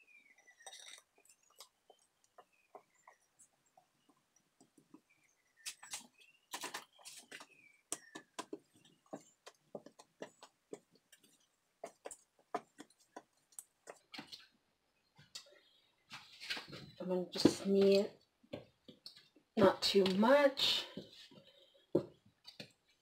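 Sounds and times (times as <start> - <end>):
hands kneading bread dough: 0.0 - 20.3.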